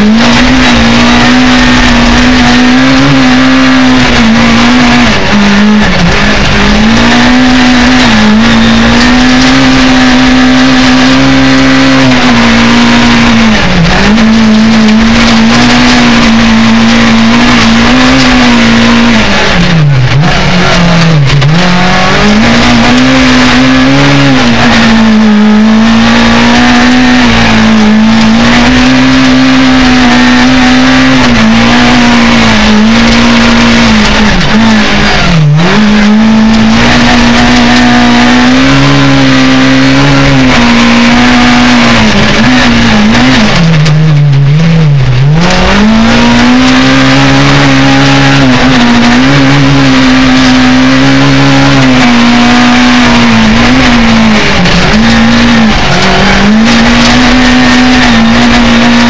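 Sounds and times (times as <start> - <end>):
car engine revving high: 0.0 - 59.0.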